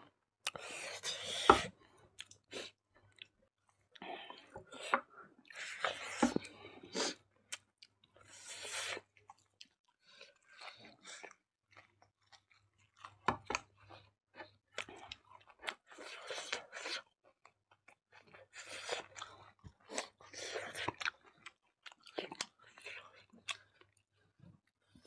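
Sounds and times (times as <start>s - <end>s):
people chewing and eating: 0.4s - 25.0s.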